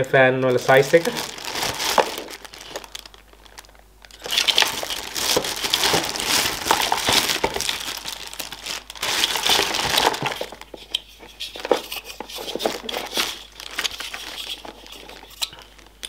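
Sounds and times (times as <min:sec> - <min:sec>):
plastic bags crinkling: 0:00.4 - 0:10.9, 0:11.5 - 0:16.0.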